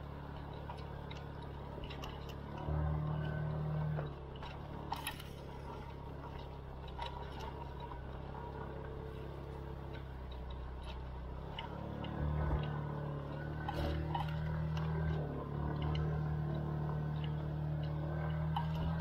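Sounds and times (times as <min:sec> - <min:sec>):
light clicks and ticks: 0:00.0 - 0:19.0.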